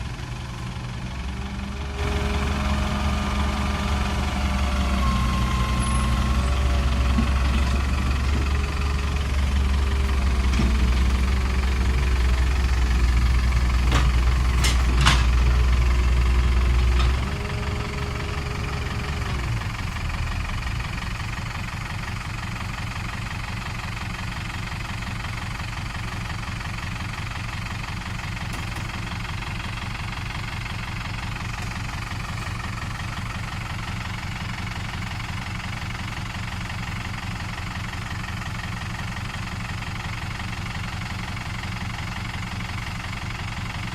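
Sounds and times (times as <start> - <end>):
heavy diesel engine: 0.0 - 43.9.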